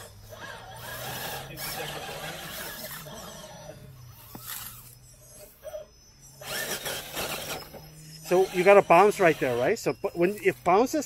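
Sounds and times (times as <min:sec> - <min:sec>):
rc car motor whirring: 0:00.0 - 0:11.0.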